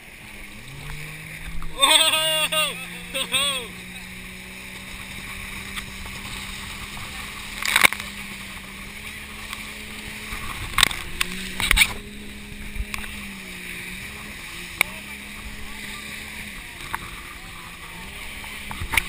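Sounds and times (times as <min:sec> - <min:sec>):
rushing water: 0:00.0 - 0:19.0
water splashes: 0:00.0 - 0:19.0.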